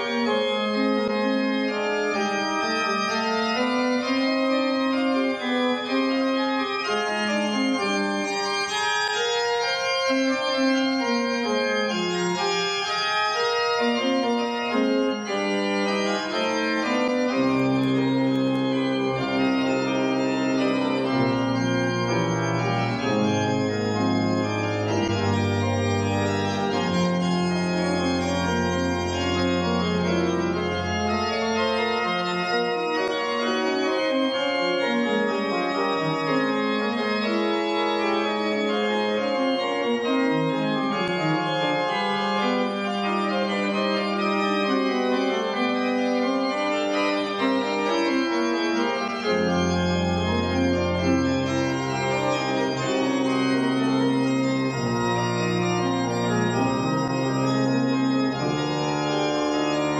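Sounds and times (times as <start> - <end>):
deep organ pedal bass notes: 0.0 - 59.9
organ playing slow chords: 0.0 - 59.9.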